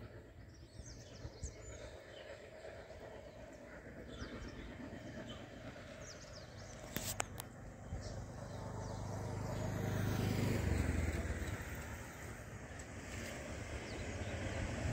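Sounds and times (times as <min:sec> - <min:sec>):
low engine drone: 0:00.0 - 0:14.9.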